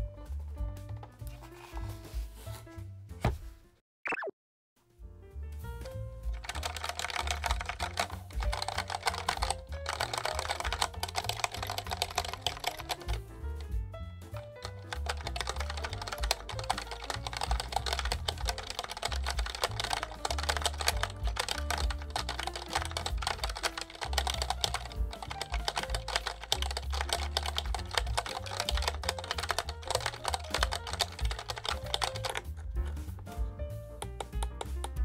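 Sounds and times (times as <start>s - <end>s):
background music: 0.0s - 3.8s, 4.8s - 35.0s
mechanical keyboard typing: 5.8s - 33.4s, 34.0s - 35.0s.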